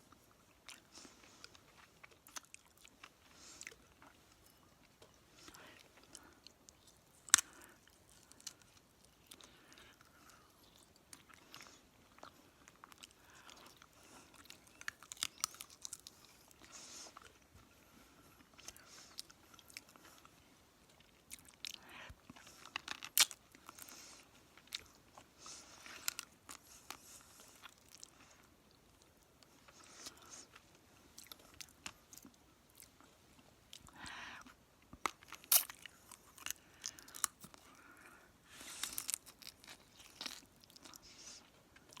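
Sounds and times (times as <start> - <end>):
chewing and wet mouth sounds: 0.1 - 42.0.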